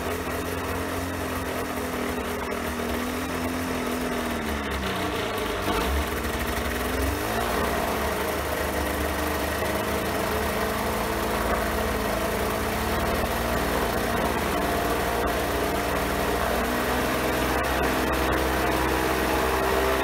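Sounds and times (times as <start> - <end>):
aircraft engine running: 0.0 - 20.0.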